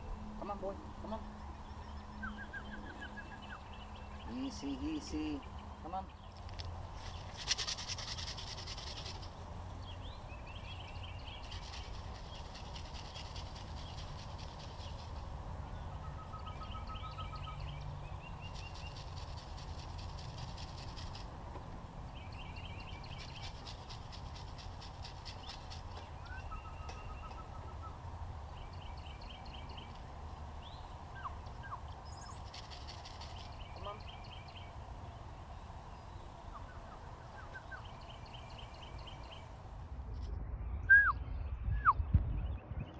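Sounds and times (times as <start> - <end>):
buzzy bird trills: 0.0 - 39.6
low background rumble: 0.0 - 42.9
small birds chirping: 0.0 - 42.9.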